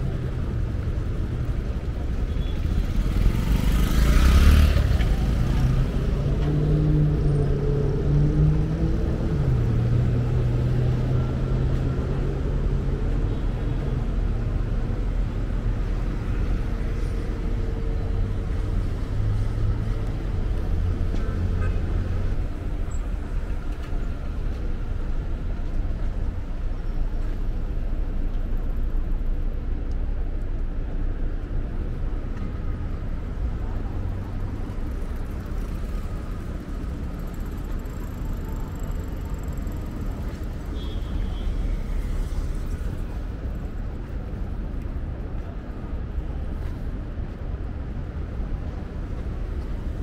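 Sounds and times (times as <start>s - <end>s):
cars passing: 0.0s - 50.0s.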